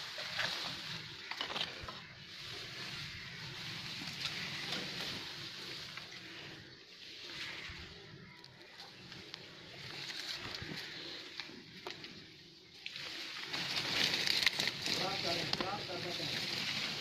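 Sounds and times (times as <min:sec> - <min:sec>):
leafy branches rustling and crackling: 0:00.0 - 0:17.0.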